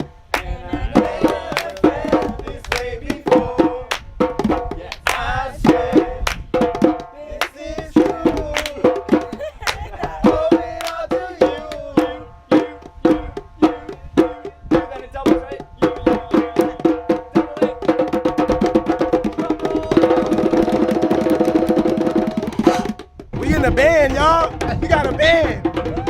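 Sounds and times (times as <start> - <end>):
drumming: 0.0 - 26.0
pitched percussion runs: 0.7 - 26.0.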